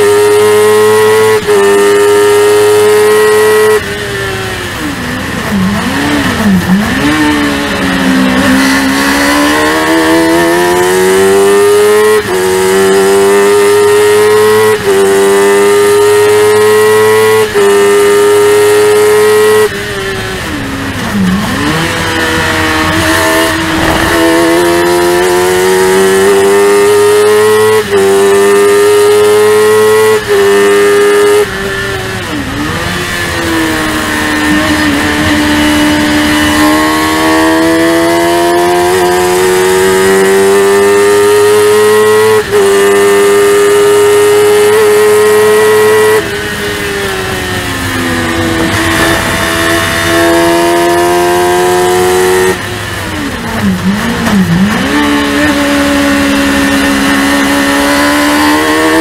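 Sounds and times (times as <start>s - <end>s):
race car engine high-revving: 0.0s - 59.0s.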